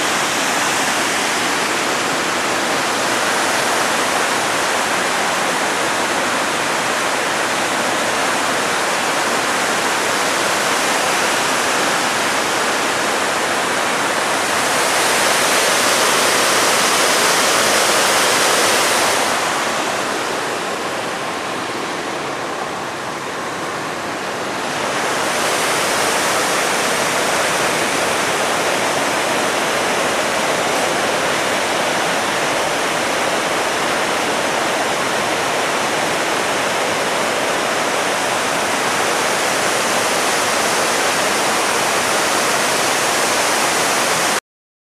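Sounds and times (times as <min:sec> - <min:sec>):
river water rushing over weir: 0:00.0 - 0:44.4.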